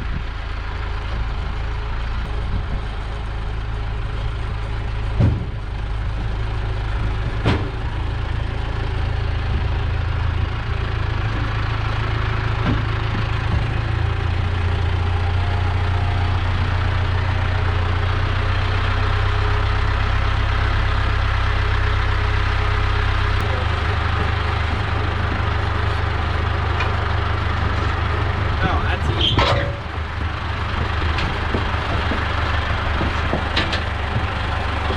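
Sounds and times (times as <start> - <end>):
vehicle engine humming: 0.0 - 34.9.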